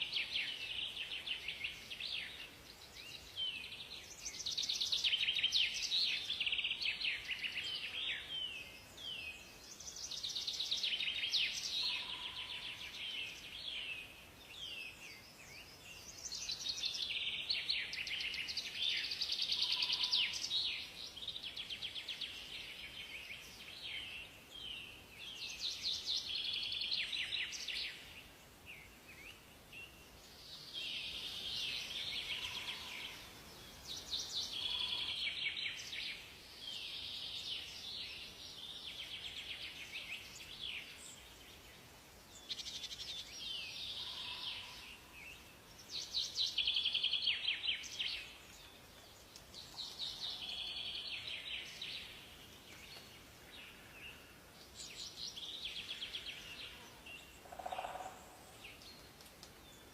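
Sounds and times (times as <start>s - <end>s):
faint steady hiss: 0.0s - 59.9s
songbirds chirping and trilling: 0.0s - 59.9s.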